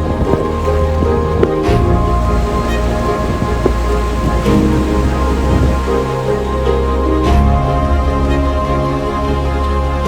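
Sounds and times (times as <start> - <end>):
soundtrack music with steady beat: 0.0 - 10.0.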